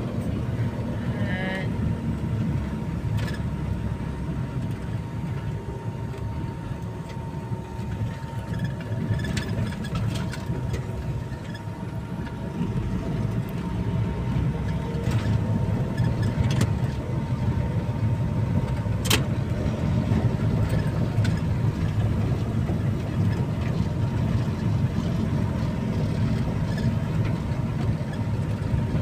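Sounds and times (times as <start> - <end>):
van engine and road rumble: 0.0 - 29.0.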